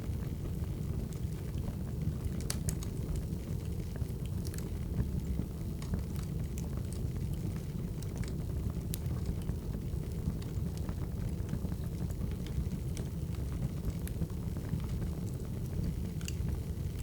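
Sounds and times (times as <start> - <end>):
firewood crackling and popping: 2.1 - 17.0.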